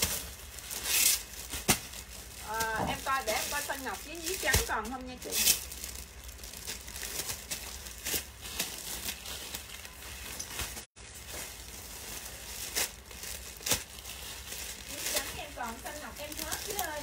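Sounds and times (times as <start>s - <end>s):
plastic-wrapped clothing rustling: 0.0s - 17.0s.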